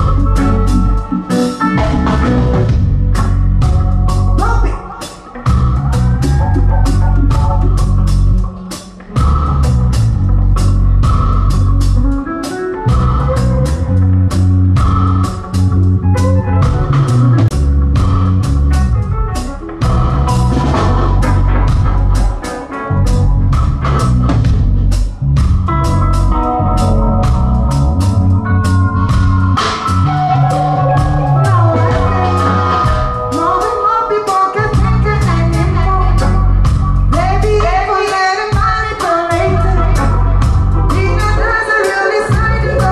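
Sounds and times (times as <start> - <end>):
heavy bass guitar line: 0.0 - 42.9
reggae band playing: 0.0 - 42.9.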